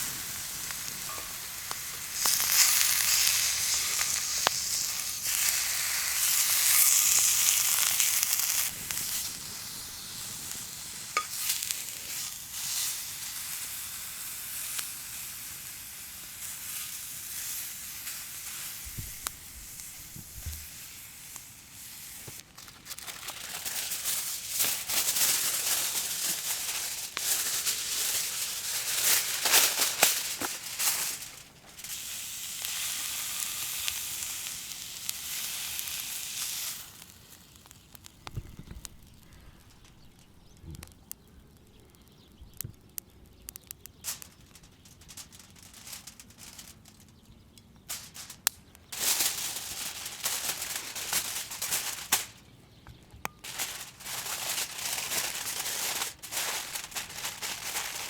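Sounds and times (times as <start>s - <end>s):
beef sizzling in skillet: 0.0s - 39.2s, 48.0s - 52.4s, 53.4s - 58.0s.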